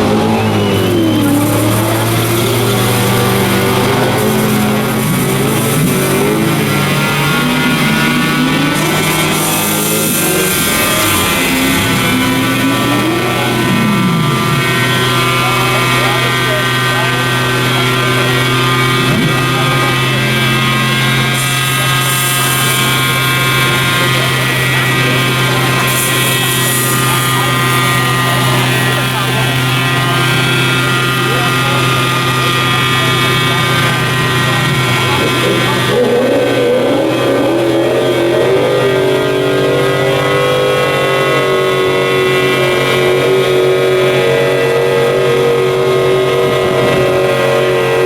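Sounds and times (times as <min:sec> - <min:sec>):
car engine revving high: 0:00.0 - 0:48.0
mechanical drone: 0:00.0 - 0:48.0.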